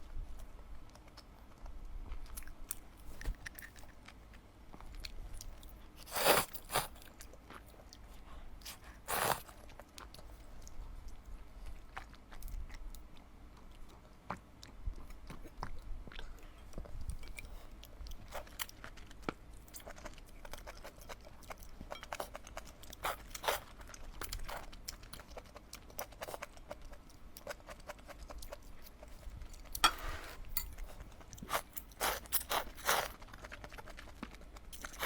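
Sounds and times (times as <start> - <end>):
chewing with wet smacks: 0.8 - 6.0, 6.9 - 35.0.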